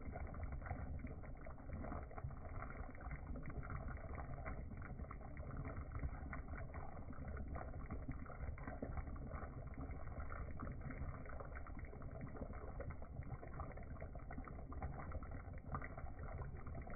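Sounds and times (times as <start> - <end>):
low steady rumble: 0.0 - 16.9
stew bubbles popping: 0.0 - 16.9.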